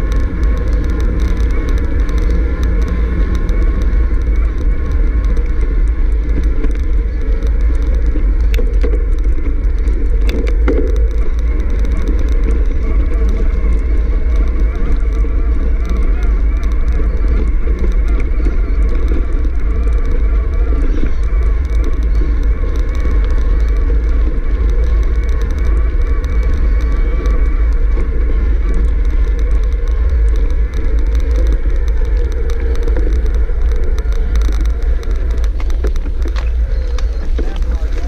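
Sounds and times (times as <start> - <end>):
bike tyres crunching on gravel: 0.0 - 38.0
wind buffeting microphone: 0.0 - 38.0.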